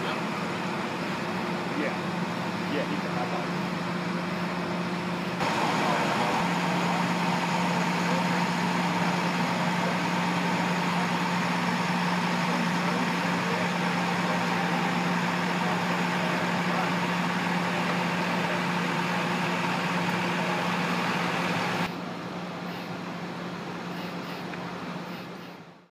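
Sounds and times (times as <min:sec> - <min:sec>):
fire engine idling: 0:00.0 - 0:25.6.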